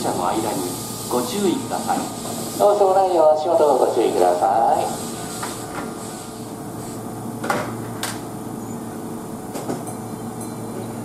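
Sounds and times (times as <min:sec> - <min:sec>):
electric train mechanical hum: 0:00.0 - 0:11.0.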